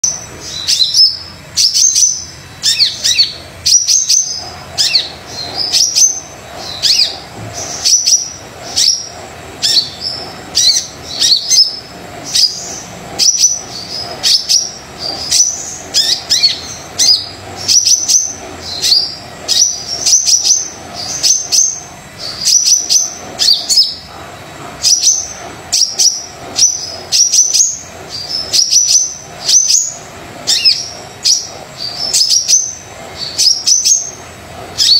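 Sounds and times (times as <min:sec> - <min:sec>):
sunbird chirping: 0:00.0 - 0:34.2.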